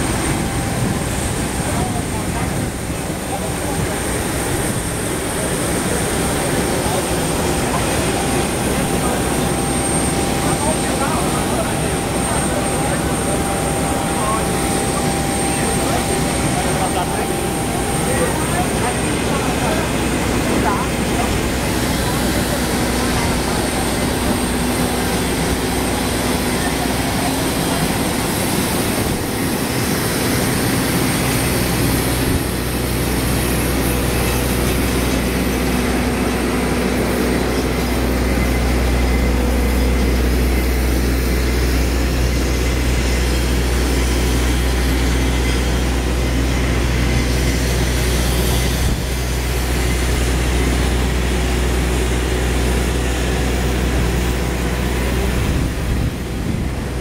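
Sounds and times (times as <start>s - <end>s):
ground power unit humming: 4.9s - 57.0s.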